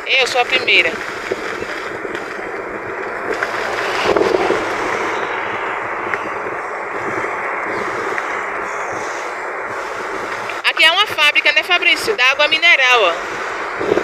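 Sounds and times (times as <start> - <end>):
wind and road noise: 0.0 - 14.0
wind buffeting microphone: 0.0 - 14.0.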